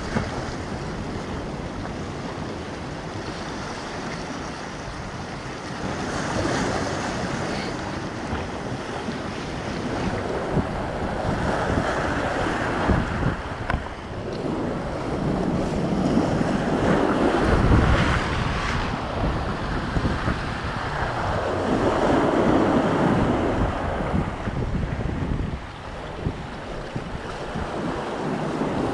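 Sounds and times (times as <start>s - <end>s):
sea waves breaking on rocks: 0.0s - 28.9s
wind buffeting microphone: 0.0s - 28.9s.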